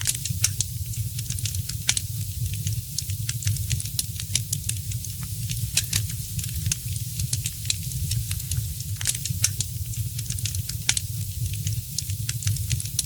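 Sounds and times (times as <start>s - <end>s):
steady low rumble: 0.0s - 13.0s
wood fire crackling: 0.0s - 13.0s.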